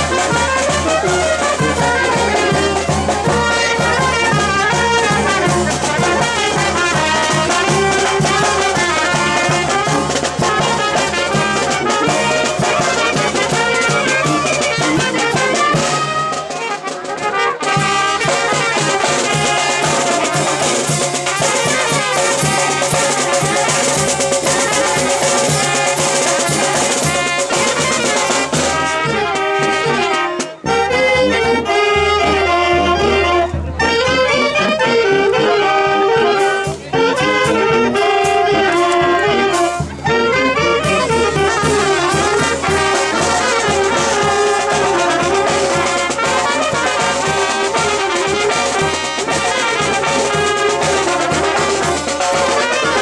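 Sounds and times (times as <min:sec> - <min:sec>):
snare drum: 0:00.0 - 0:31.0, 0:31.8 - 0:53.0
brass band playing: 0:00.0 - 0:53.0.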